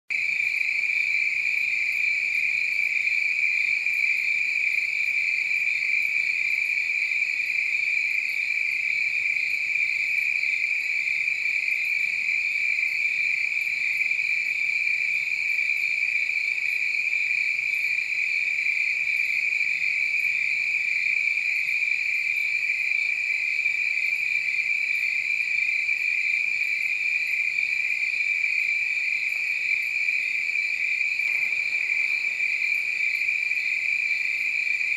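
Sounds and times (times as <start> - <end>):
crickets trilling: 0.1 - 34.9.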